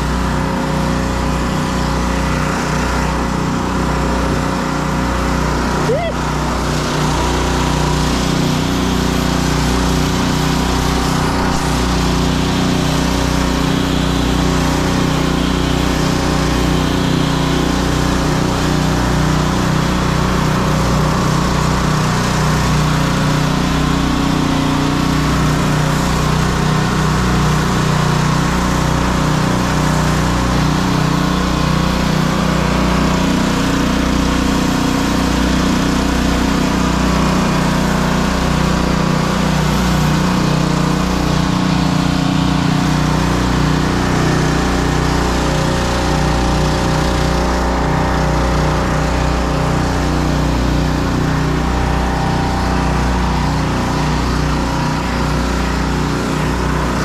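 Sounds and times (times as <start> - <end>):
pressure washer engine running: 0.0 - 57.0
water jets spraying wooden boards: 0.0 - 57.0.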